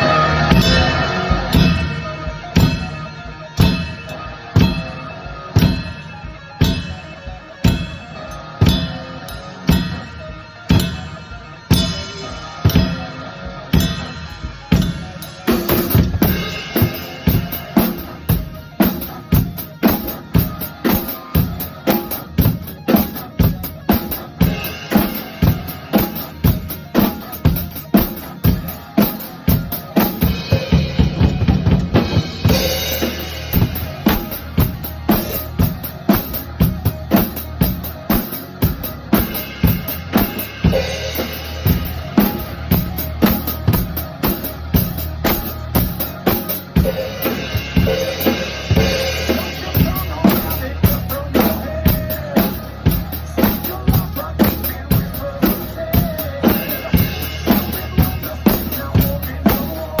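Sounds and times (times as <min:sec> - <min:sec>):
cymbals: 0:00.0 - 0:10.1, 0:10.7 - 1:00.0
electric guitar chords: 0:00.0 - 1:00.0.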